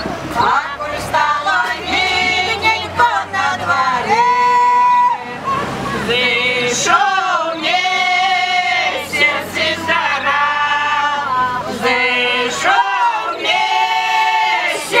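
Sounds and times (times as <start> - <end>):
women singing folk song together: 0.0 - 15.0.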